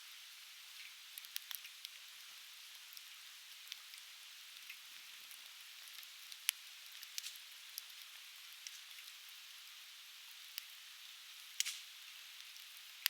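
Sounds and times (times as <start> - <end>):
firewood crackling and popping: 0.8 - 9.6, 10.4 - 13.0.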